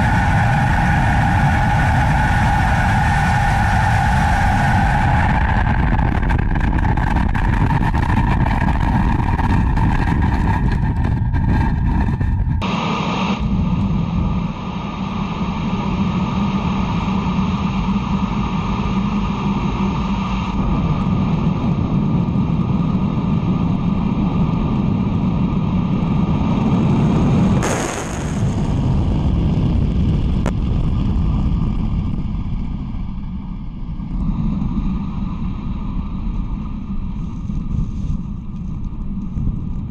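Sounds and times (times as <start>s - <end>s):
rocket engines roaring: 0.0s - 39.9s.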